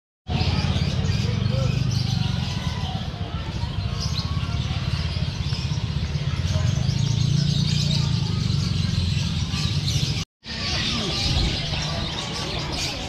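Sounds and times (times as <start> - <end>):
market background rumble: 0.3 - 13.0
songbirds chirping: 0.3 - 13.0.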